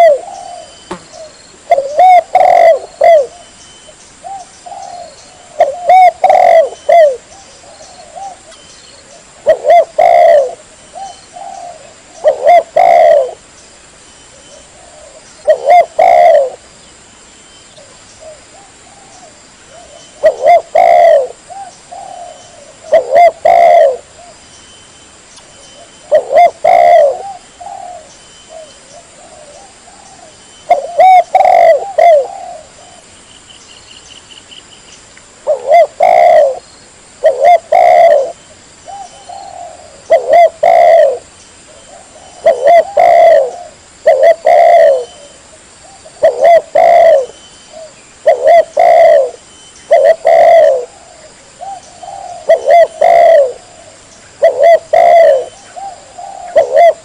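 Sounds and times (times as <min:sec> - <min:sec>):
dove cooing: 0:00.0 - 0:03.6, 0:04.2 - 0:13.4, 0:14.3 - 0:16.6, 0:17.8 - 0:24.4, 0:25.8 - 0:33.1, 0:35.4 - 0:36.6, 0:37.2 - 0:57.0.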